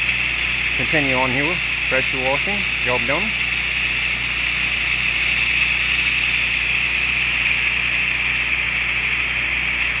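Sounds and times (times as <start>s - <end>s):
engine and pump hum: 0.0s - 10.0s
pressure washer water jet hiss: 0.0s - 10.0s.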